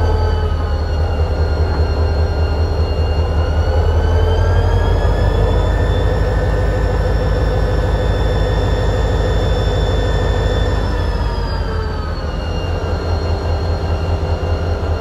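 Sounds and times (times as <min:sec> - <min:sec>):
locomotive high whine: 0:00.0 - 0:15.0
locomotive idling rumble: 0:00.0 - 0:15.0.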